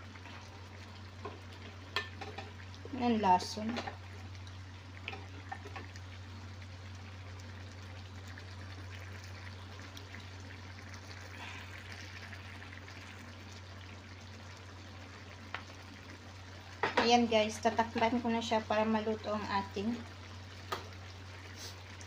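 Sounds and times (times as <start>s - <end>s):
pot simmering and sizzling: 0.0s - 22.0s.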